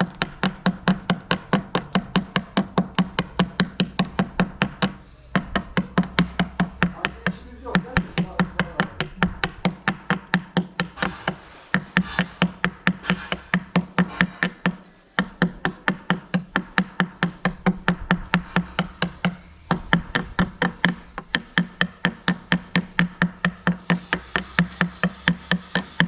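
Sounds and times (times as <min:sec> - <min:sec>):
rapid hollow knocks: 0:00.0 - 0:26.0.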